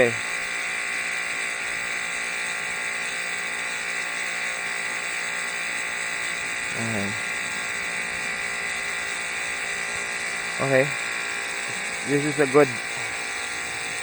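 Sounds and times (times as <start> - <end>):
high-pressure water jet hissing: 0.0 - 14.0
pressure washer motor whine: 0.0 - 14.0.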